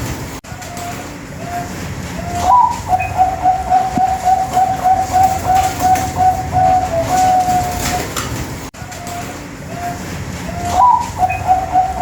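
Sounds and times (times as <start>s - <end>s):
dove cooing: 0.6s - 12.0s.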